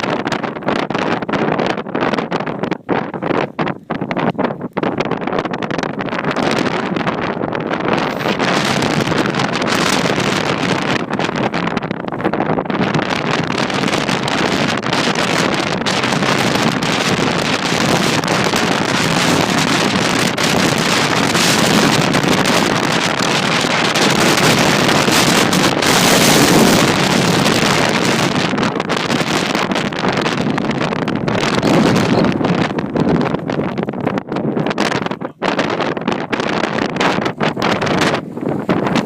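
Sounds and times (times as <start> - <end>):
strong wind gusting: 0.0 - 39.0
wind buffeting on microphone: 0.0 - 39.0.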